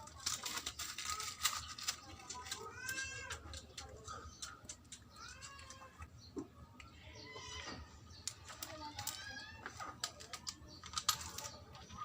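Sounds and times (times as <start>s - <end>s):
small hard objects clicking: 0.0s - 6.9s, 8.1s - 12.0s.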